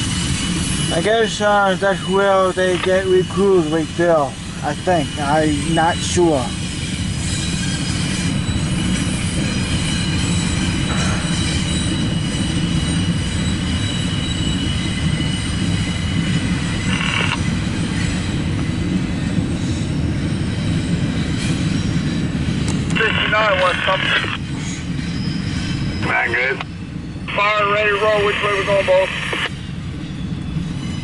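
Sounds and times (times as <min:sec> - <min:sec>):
high wheel squeal: 0:00.0 - 0:31.0
train wheels rumbling on rails: 0:00.0 - 0:31.0.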